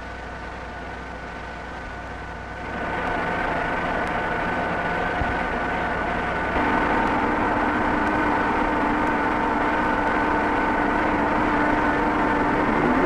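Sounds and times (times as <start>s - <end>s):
lathe running with whine: 2.5s - 13.0s.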